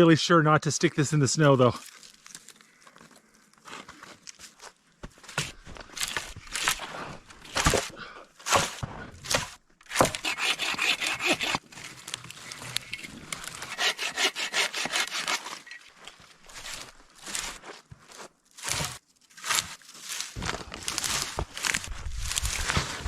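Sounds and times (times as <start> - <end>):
scraping birch bark: 1.3 - 23.0.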